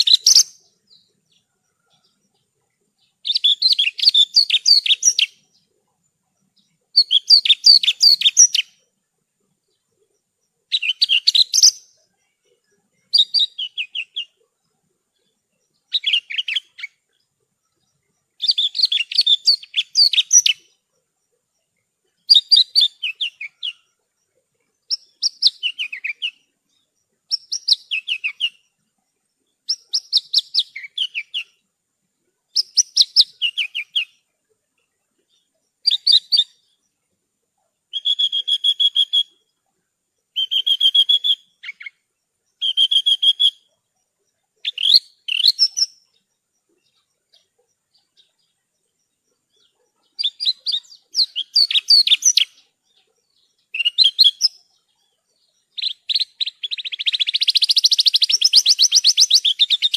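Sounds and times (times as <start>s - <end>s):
bird singing high chirps: 0.0s - 5.7s, 6.4s - 8.8s, 9.7s - 20.8s, 21.5s - 28.9s, 29.5s - 31.6s, 32.5s - 34.2s, 35.3s - 36.9s, 37.9s - 39.5s, 40.2s - 59.9s.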